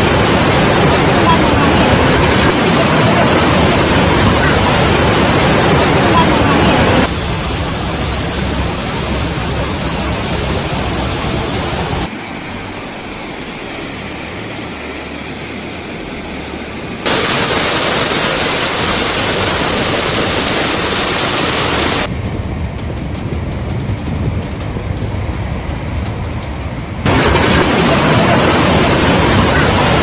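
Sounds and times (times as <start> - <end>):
rushing floodwater roar: 0.0 - 30.0.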